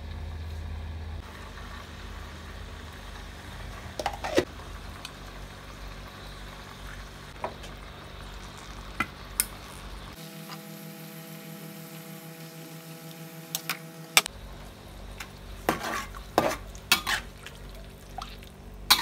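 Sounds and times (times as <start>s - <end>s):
greens sizzling in a wok: 1.2s - 19.0s.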